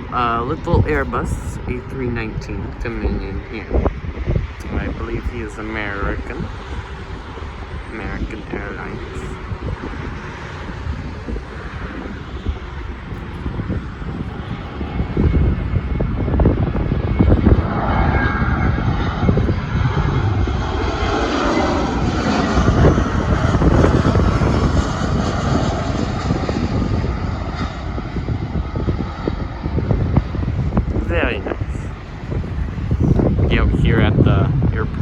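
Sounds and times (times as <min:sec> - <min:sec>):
jet plane passing close: 0:00.0 - 0:35.0.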